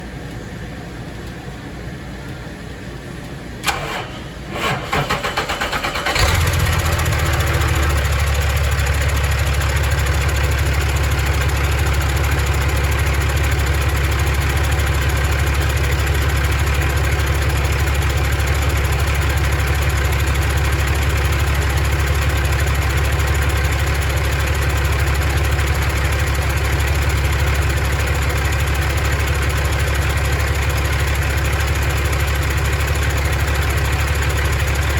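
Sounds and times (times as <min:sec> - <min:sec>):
diesel engine cranking and idling: 0:03.6 - 0:34.9.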